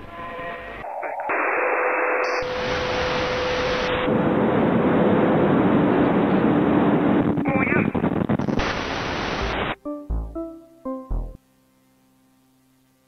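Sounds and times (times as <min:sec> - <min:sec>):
loud static hiss: 0:00.7 - 0:13.0.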